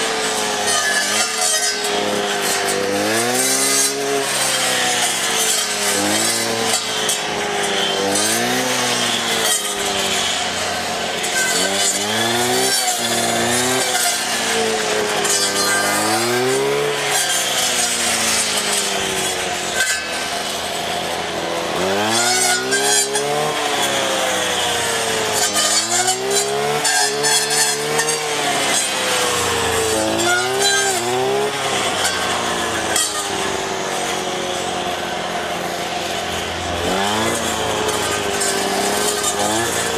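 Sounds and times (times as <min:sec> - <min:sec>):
petrol strimmer engine revving: 0:00.0 - 0:39.9.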